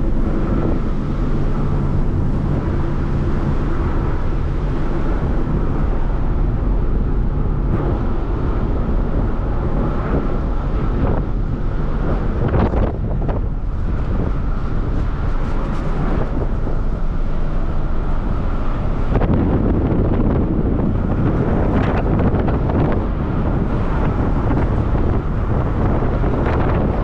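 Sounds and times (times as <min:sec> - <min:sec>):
low engine rumble: 0:00.0 - 0:27.0
wind buffeting microphone: 0:00.0 - 0:27.0.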